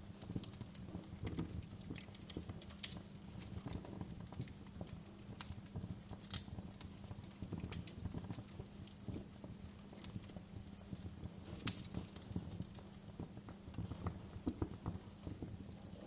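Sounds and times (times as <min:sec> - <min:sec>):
fire popping and snapping: 0:00.0 - 0:16.0
low rumble of burning logs: 0:00.0 - 0:16.0.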